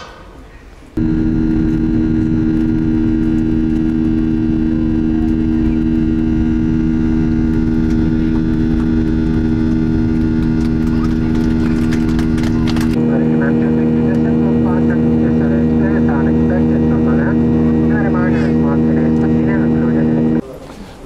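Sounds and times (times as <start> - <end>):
jet engines drone inside cabin: 1.0 - 20.4.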